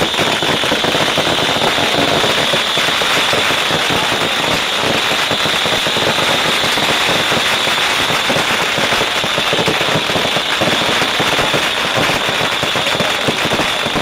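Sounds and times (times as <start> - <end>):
bottle rockets crackling: 0.0 - 14.0.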